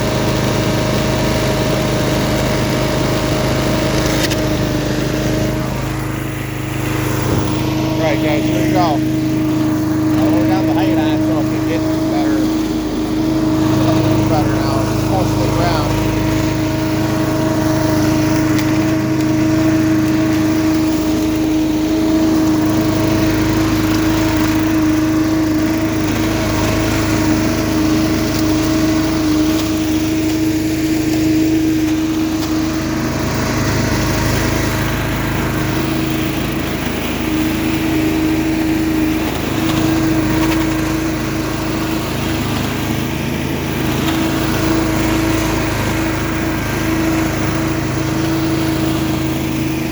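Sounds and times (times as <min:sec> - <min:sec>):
leaf vacuum whine: 0:00.0 - 0:49.9
small engine humming: 0:00.0 - 0:49.9.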